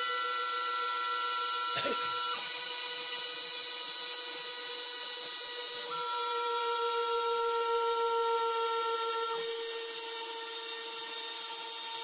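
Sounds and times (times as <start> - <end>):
router spindle whine while cutting: 0.0 - 12.0.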